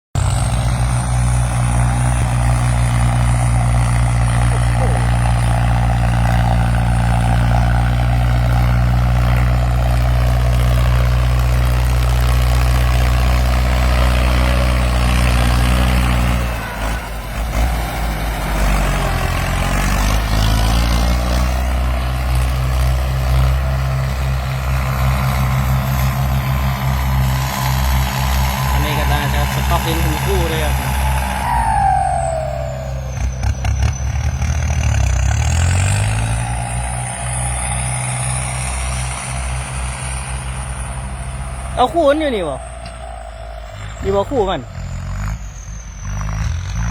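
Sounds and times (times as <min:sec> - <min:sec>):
tractor diesel engine running: 0:00.1 - 0:46.9.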